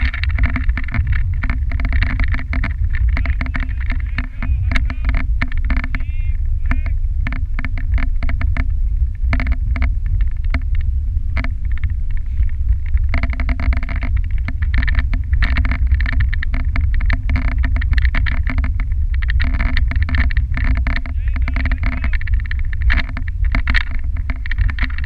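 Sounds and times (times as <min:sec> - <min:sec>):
sled clicking and rattling: 0:00.0 - 0:25.0
sled runners rumbling on snow: 0:00.0 - 0:25.0.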